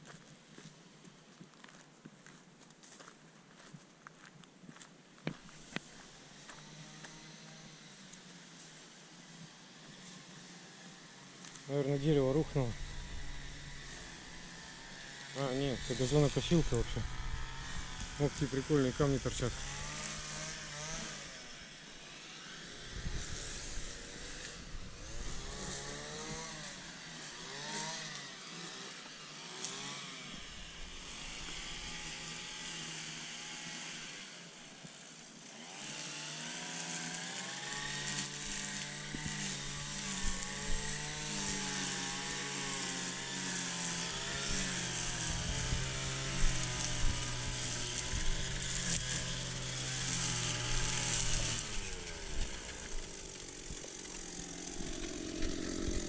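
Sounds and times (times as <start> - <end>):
lawnmower engine revving: 5.7 - 8.2, 10.0 - 56.0.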